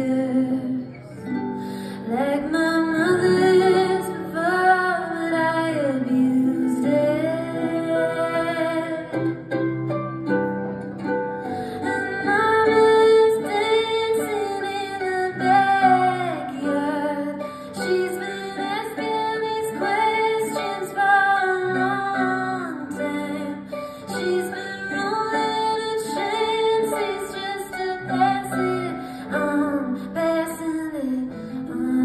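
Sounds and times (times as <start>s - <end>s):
woman singing: 0.0s - 1.1s, 1.9s - 9.4s, 11.8s - 32.0s
harp: 0.0s - 32.0s.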